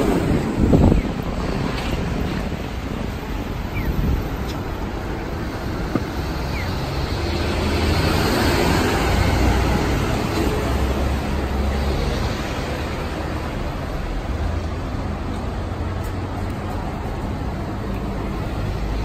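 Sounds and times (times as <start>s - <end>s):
cars and buses passing: 0.0s - 19.0s.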